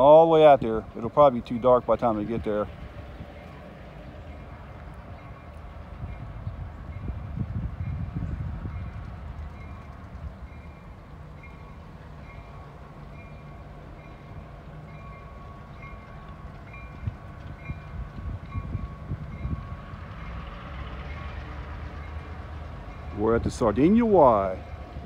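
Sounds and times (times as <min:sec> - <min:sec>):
locomotive bell ringing: 0:00.0 - 0:25.0
locomotive engine rumbling: 0:00.0 - 0:25.0.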